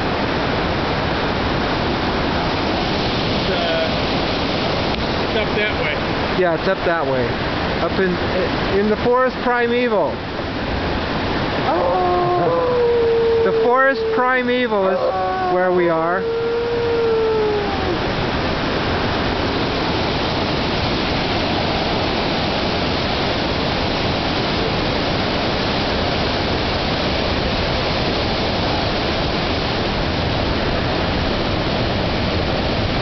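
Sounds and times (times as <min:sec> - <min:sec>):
creek water rushing: 0:00.0 - 0:33.0.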